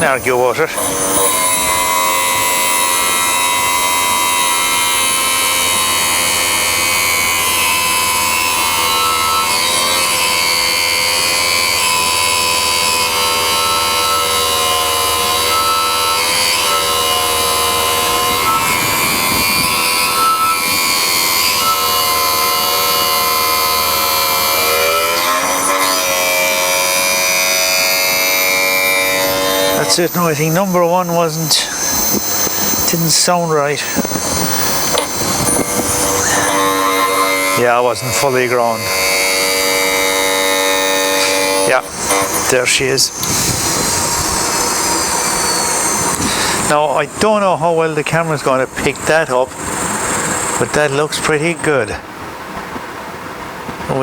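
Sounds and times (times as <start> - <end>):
grinding machine whine and hiss: 0.0 - 54.0.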